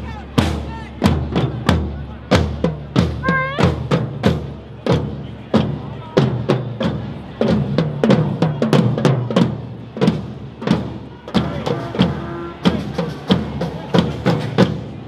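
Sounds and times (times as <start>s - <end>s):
drums beaten unevenly: 0.0s - 15.0s.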